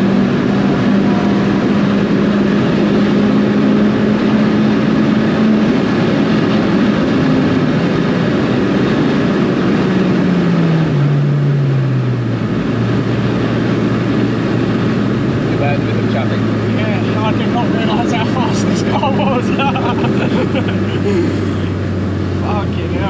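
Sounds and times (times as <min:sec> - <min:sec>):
car engine under load: 0:00.0 - 0:23.0
road and wind noise: 0:00.0 - 0:23.0.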